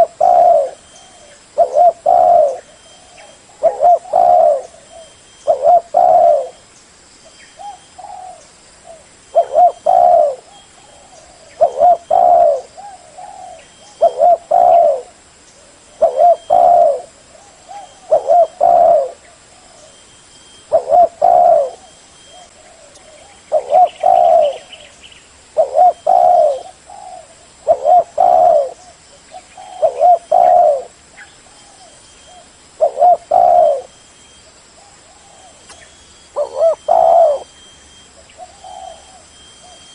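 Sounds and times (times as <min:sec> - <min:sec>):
dove cooing: 0:00.0 - 0:06.6, 0:07.6 - 0:20.0, 0:20.6 - 0:24.9, 0:25.5 - 0:34.0, 0:34.8 - 0:39.9.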